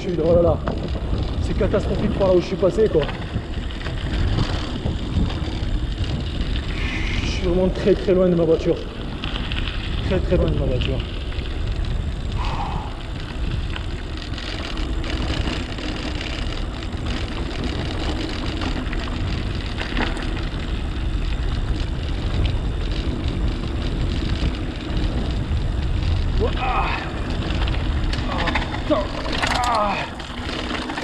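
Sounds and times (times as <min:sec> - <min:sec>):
tyres rolling on dirt trail: 0:00.0 - 0:31.0
wind on microphone: 0:00.0 - 0:31.0.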